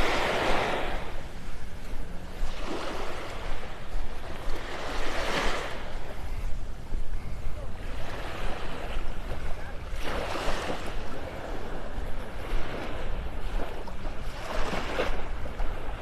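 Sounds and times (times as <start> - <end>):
waves lapping on sand: 0.0 - 16.0
wind rumble on microphone: 0.0 - 16.0.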